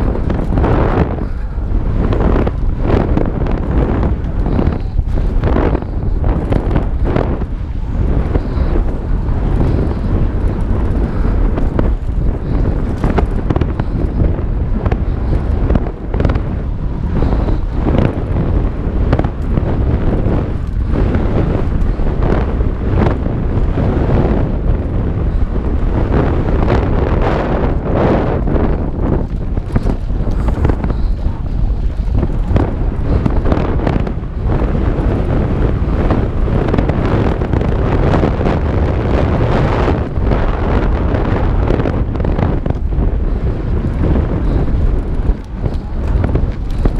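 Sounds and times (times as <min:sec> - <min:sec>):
bike knocking and rattling: 0:00.0 - 0:46.9
tyres rumbling on dirt: 0:00.0 - 0:46.9
wind buffeting camera: 0:00.0 - 0:46.9.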